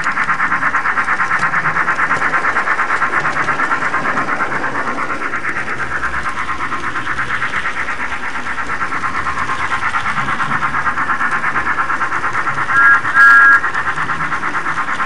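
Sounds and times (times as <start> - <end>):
steam engine chuffing effect: 0.0 - 15.0.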